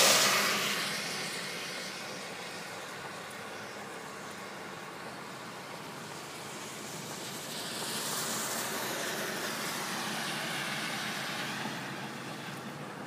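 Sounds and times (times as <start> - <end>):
tyres hissing on wet road: 0.0 - 13.0.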